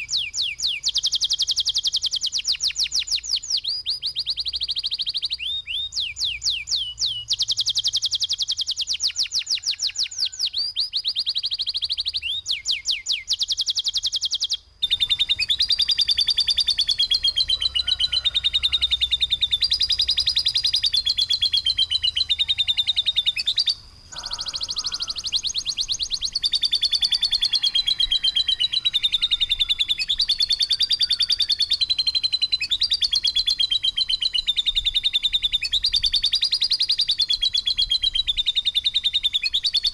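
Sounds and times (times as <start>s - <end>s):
songbird harsh rapid song: 0.0s - 39.9s.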